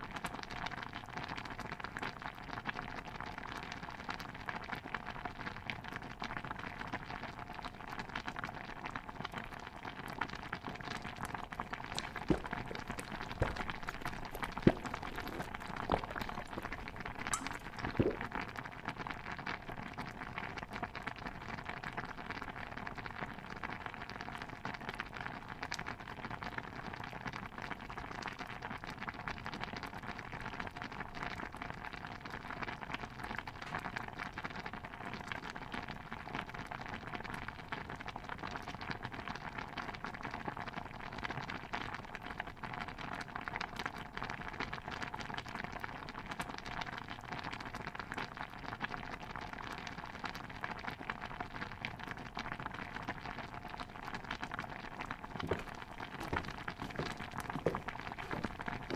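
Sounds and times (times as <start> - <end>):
pot of stew bubbling: 0.0 - 58.9.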